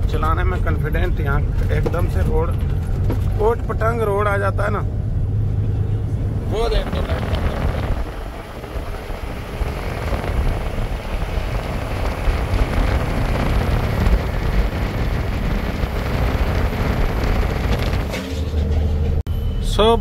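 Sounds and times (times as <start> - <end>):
truck engine and tyres rumbling: 0.0 - 20.0.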